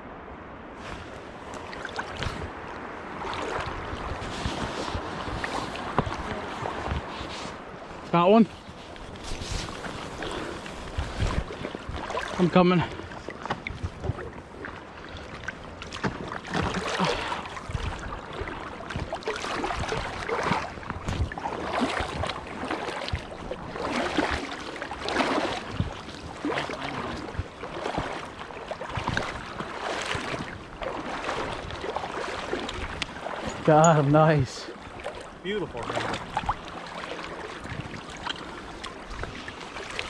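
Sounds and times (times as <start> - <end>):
river water sloshing and splashing: 0.0 - 40.0.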